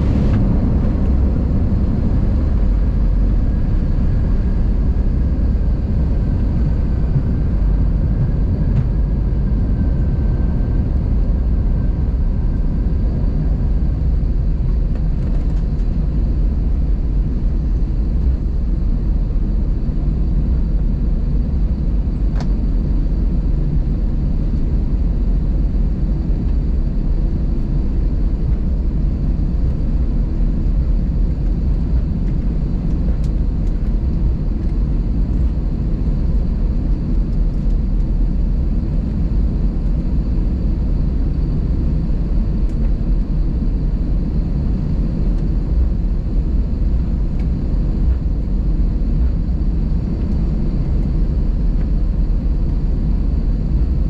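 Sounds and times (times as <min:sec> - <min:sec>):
jet cabin rumble: 0:00.0 - 0:54.0.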